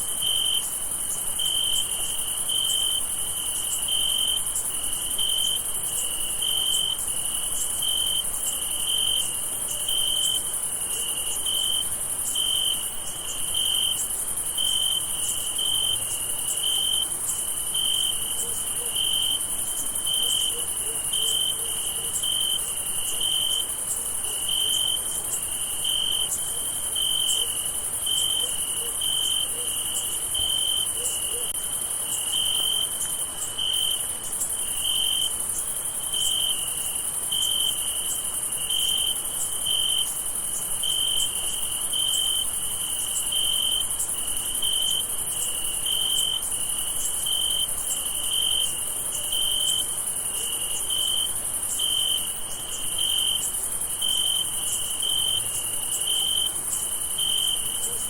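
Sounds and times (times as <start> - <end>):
crickets trilling: 0.0 - 58.0
low pulsed cricket chirp: 0.0 - 58.0.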